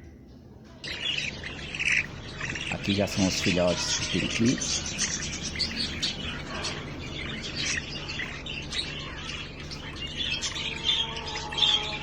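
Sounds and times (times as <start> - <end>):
budgerigars chirping: 0.8 - 12.0.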